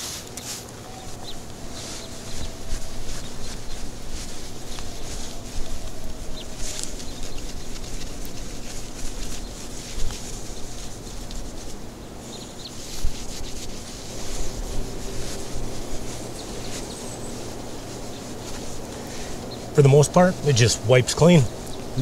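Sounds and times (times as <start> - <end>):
cloth rag wiping metal: 0.0 - 11.8, 12.7 - 21.4
low hum: 0.6 - 22.0.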